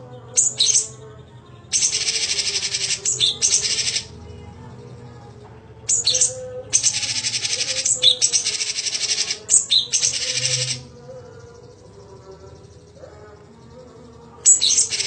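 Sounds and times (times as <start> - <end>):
bird singing buzzy trills: 0.0 - 15.0.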